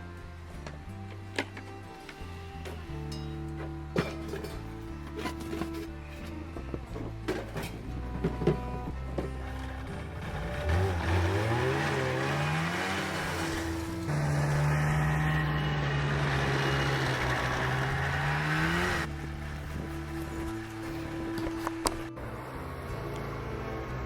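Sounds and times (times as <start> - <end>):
road noise: 0.0 - 24.0
vehicle engine accelerating: 0.0 - 24.0.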